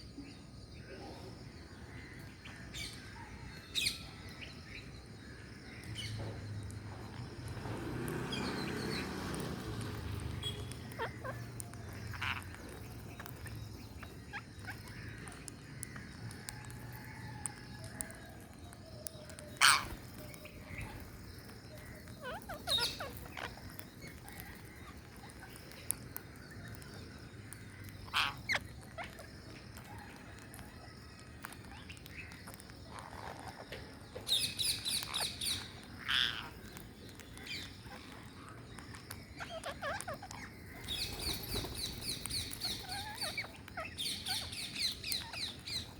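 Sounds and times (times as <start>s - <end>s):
parrots squawking and chirping: 8.4s - 18.5s, 19.2s - 45.9s.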